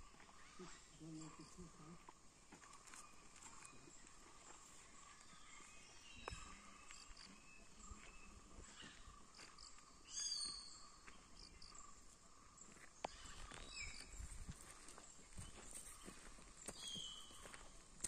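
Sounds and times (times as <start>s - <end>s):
faint insect drone: 0.0s - 18.0s.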